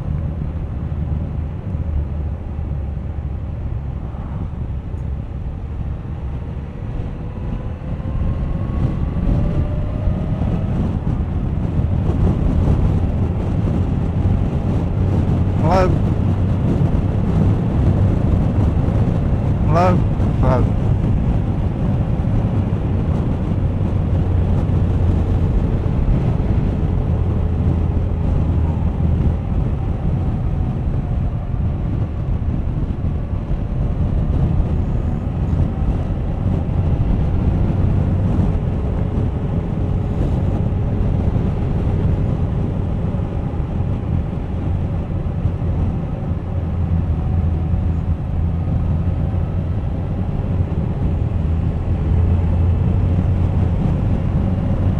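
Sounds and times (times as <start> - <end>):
wind and road noise: 0.0 - 54.9
motorcycle engine cruising: 1.9 - 54.9.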